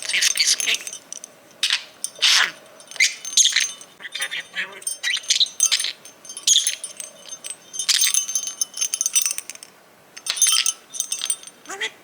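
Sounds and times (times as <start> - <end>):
small metal bell jingling: 0.0 - 12.0.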